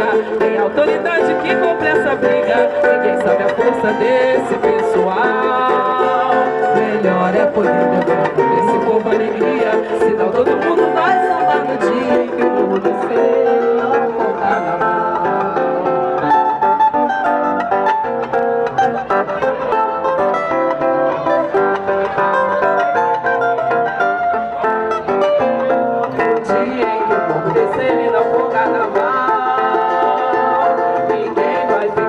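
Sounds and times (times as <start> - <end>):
plucked strings melody: 0.0 - 32.0
samba music: 0.0 - 32.0.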